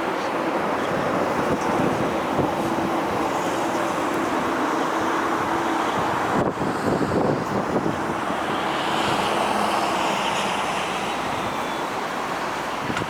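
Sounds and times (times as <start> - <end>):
jet engine noise: 0.0 - 13.0
wind buffeting microphone: 0.0 - 13.0.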